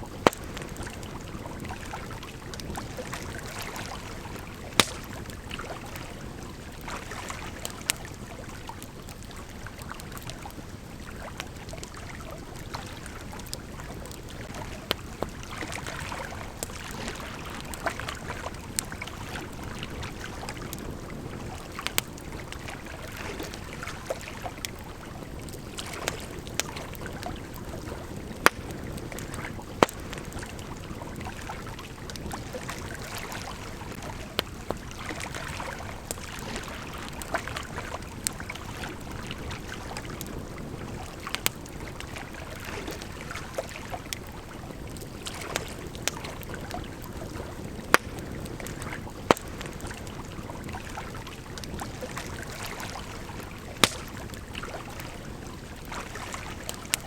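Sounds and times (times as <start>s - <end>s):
campfire crackling and popping: 0.0s - 57.0s
river flowing: 0.0s - 57.0s.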